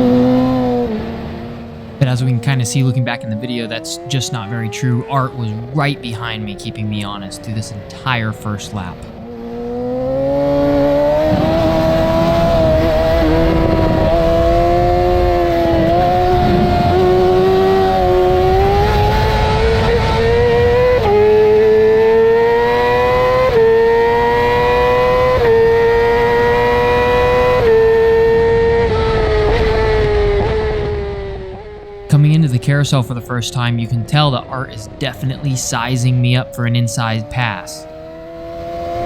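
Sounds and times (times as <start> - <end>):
motorcycle engine revving and upshifting: 0.0 - 39.0.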